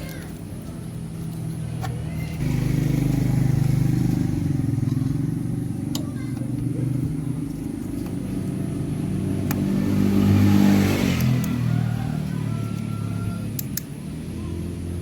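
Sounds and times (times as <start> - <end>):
vehicle engine revving: 1.2 - 15.0.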